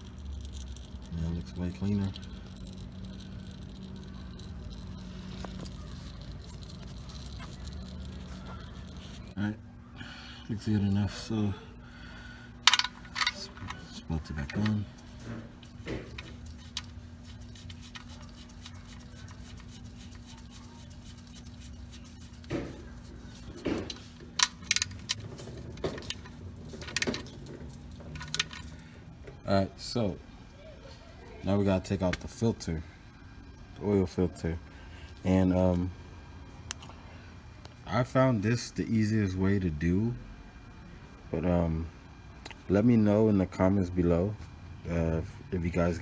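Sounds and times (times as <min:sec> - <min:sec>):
constant low hum: 0:00.0 - 0:46.0.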